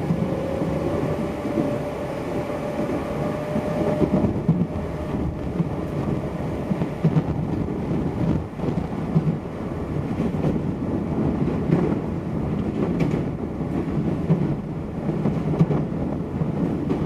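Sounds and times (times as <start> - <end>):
train knocks: 0.0 - 17.0
train wheels rumbling on rails: 0.0 - 17.0.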